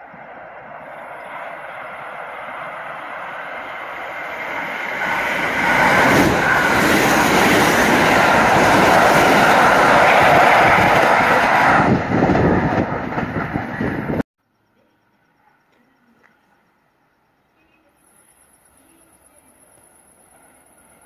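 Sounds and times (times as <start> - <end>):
train passing at speed: 0.0 - 14.2, 18.0 - 21.0.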